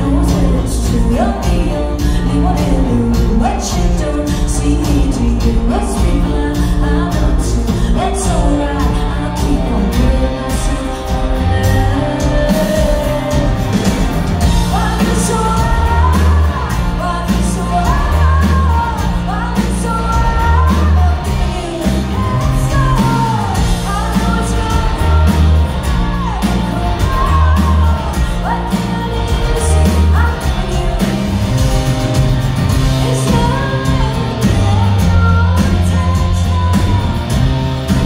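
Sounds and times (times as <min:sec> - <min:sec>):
live rock band: 0:00.0 - 0:38.0
woman singing: 0:00.0 - 0:38.0.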